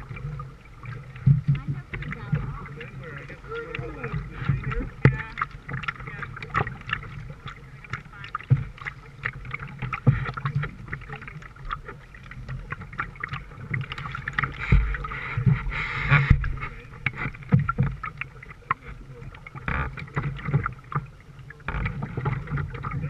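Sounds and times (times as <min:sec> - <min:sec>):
paddle knocks against canoe: 0:00.0 - 0:23.0
paddle strokes through water: 0:00.0 - 0:23.0
water splashes and drips: 0:00.0 - 0:23.0.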